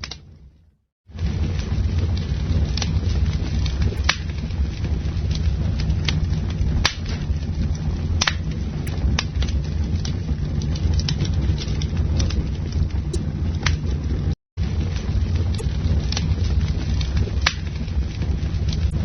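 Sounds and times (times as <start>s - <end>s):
burning wood crackling and popping: 0.0s - 19.0s
rumble of bonfire flames: 0.0s - 19.0s.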